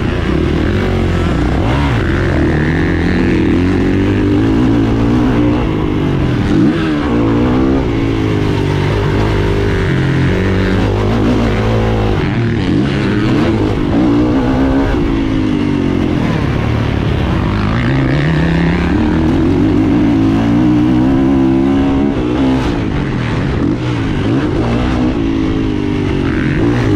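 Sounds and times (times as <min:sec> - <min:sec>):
motocross bike engine revving: 0:00.0 - 0:26.9.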